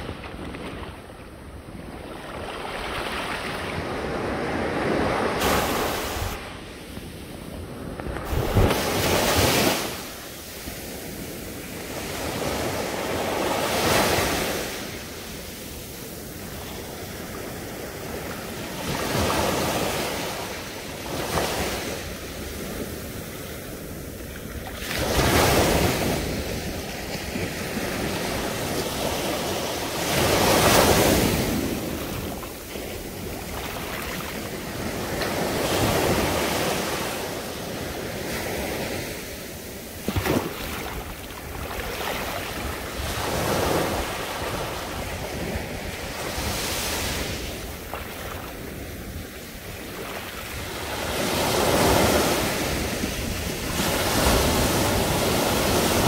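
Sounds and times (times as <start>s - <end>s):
sea waves breaking on a beach: 0.0s - 56.0s.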